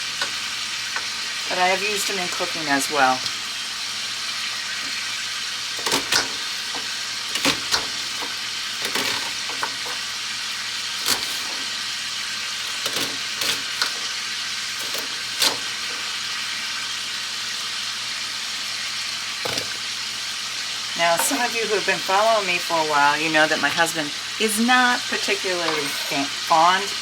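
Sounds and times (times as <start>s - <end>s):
chicken sizzling in a skillet: 0.0s - 27.0s.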